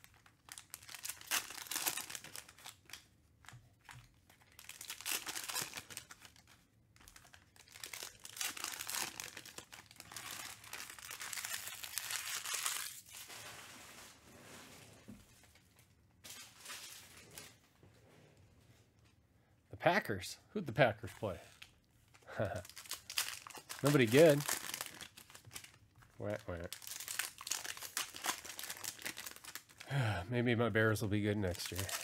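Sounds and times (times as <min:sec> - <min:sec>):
foil wrappers crinkling and tearing: 0:00.0 - 0:14.6, 0:15.3 - 0:17.6, 0:21.3 - 0:29.9, 0:31.4 - 0:32.0.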